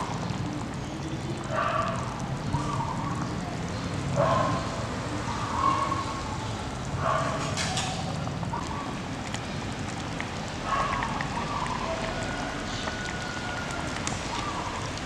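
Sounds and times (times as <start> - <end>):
broth bubbling in a pot: 0.0 - 15.0.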